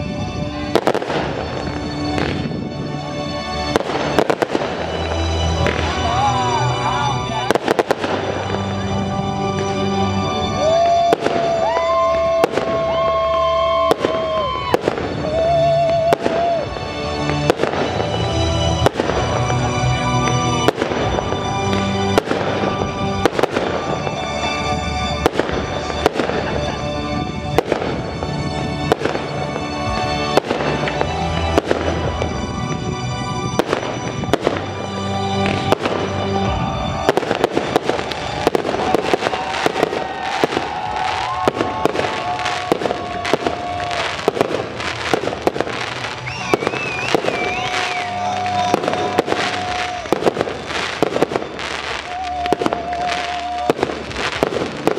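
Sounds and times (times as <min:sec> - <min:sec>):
music with long held notes: 0:00.0 - 0:54.9.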